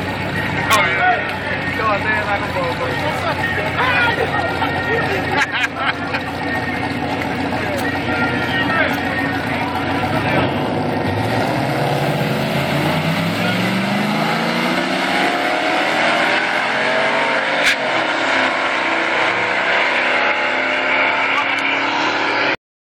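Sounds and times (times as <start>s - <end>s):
truck engine at full throttle: 0.0s - 22.6s.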